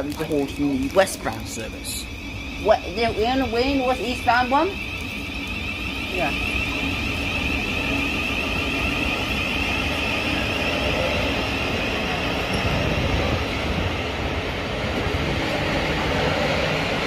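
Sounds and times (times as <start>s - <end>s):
electric train rumbling: 0.0s - 17.0s
high whine: 0.0s - 17.0s.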